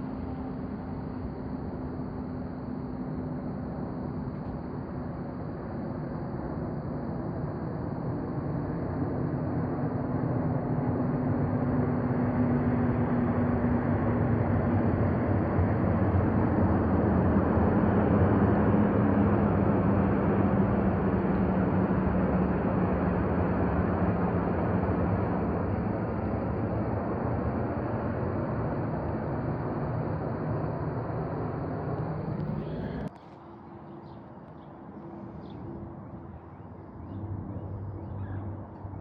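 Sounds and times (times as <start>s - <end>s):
engine drone: 0.0s - 39.0s.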